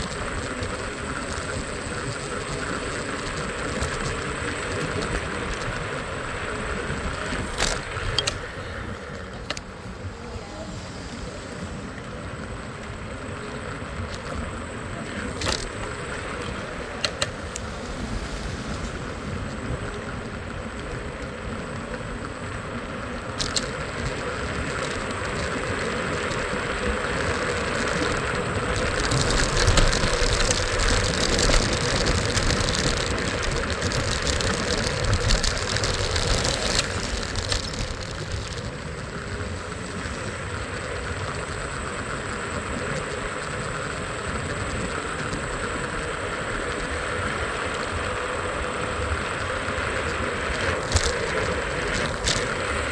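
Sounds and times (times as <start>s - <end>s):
road traffic: 0.0s - 52.9s.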